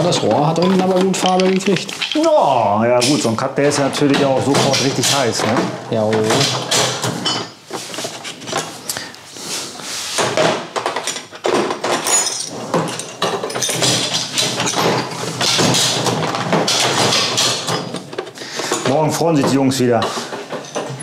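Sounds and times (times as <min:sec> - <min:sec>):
metal hand tools clattering: 0:00.0 - 0:07.6, 0:10.8 - 0:21.0
rummaging and rattling: 0:00.0 - 0:21.0.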